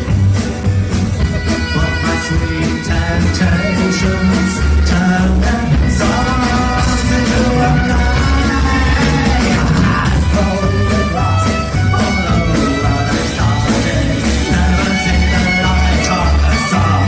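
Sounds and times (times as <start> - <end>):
live rock band playing: 0.0 - 17.0
person singing: 1.1 - 17.0.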